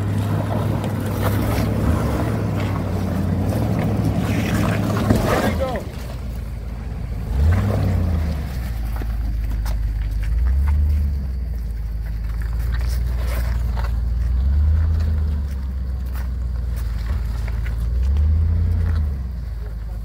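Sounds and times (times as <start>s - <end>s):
off-road vehicle engine rumble: 0.0s - 20.0s.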